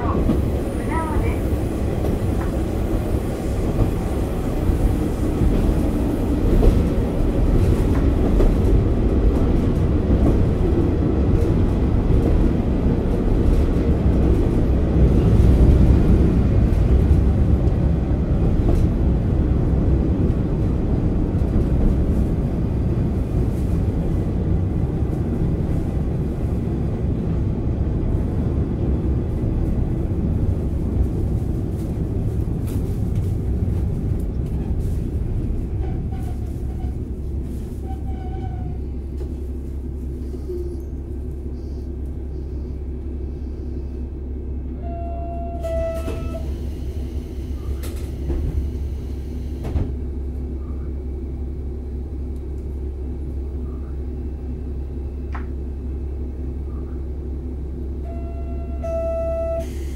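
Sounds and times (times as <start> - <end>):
diesel railcar rumble from inside: 0.0 - 59.9.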